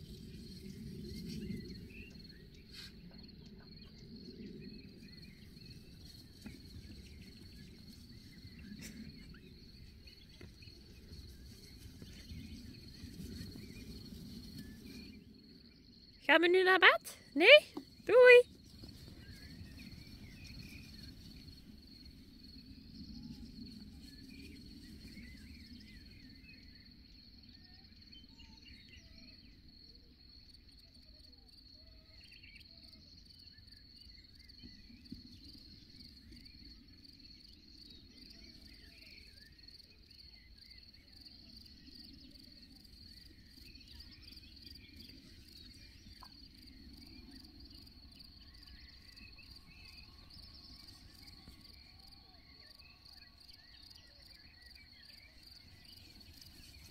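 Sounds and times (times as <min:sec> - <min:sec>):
crickets chirping: 0:00.0 - 0:56.9.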